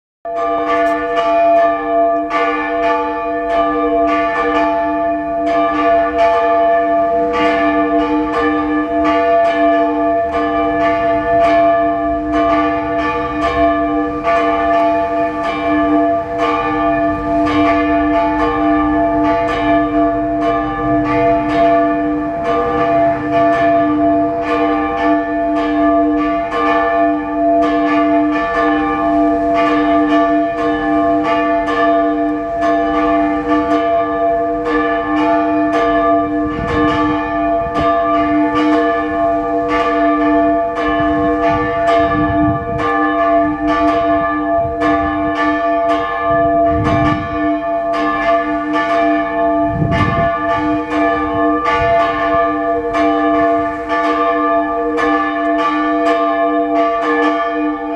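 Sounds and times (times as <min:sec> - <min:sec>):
church bells pealing: 0:00.3 - 0:57.9.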